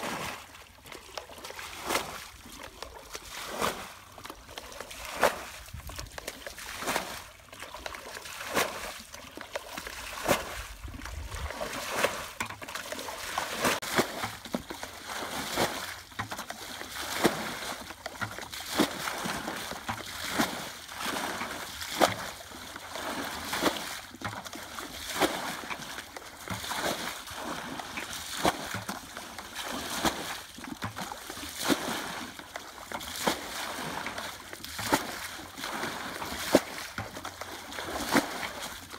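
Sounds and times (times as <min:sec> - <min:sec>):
water splashing and sloshing: 0:00.0 - 0:38.9.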